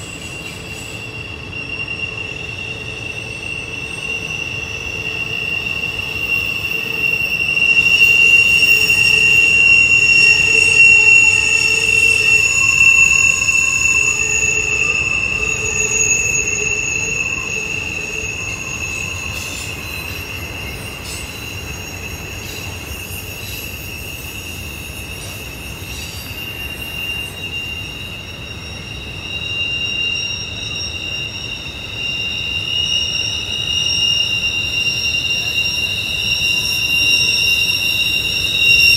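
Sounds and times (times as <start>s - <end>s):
train wheels squealing on rail: 0.0s - 38.9s.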